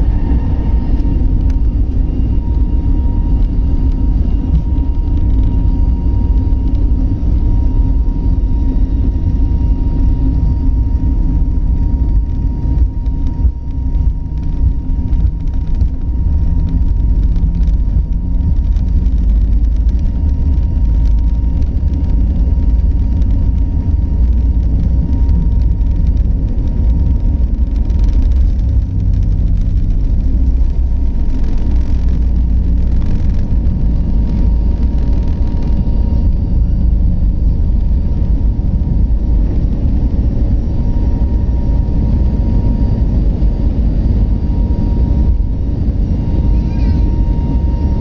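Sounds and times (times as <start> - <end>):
engine and airflow rumble: 0.0 - 48.0
faint high whine: 0.0 - 48.0.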